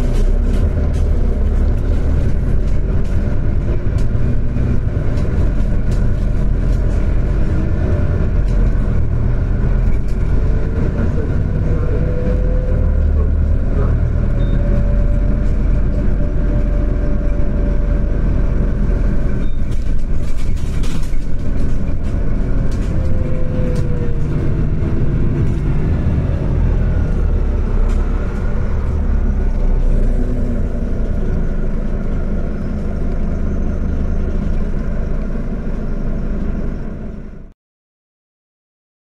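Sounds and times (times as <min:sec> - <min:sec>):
bus engine and road rumble: 0:00.0 - 0:37.6.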